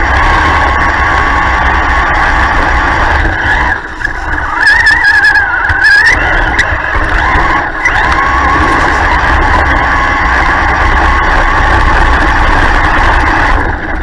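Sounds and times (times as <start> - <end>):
toy truck motor whining: 0.0 - 14.0.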